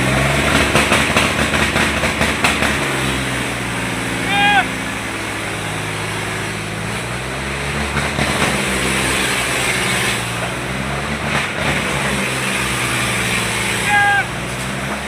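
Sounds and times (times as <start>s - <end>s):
crowd noise: 0.0s - 15.0s
diesel tractor engine running: 0.0s - 15.0s.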